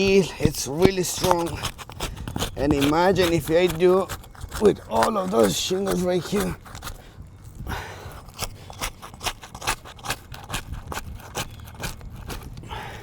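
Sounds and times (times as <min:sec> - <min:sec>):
roof shingle cracking and scraping: 0:00.0 - 0:13.0.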